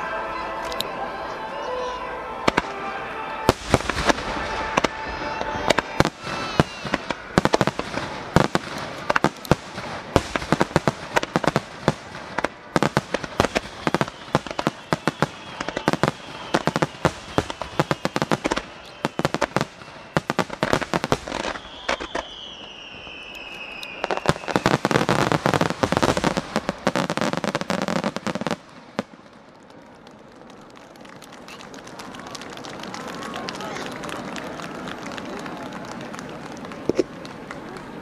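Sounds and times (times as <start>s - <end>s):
fireworks bursting with crackle: 2.4s - 38.0s.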